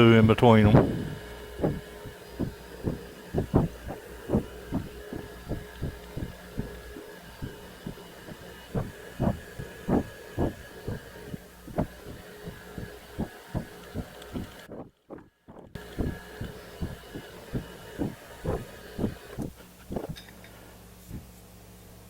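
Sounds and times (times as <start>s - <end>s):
milling machine humming: 0.0s - 20.2s.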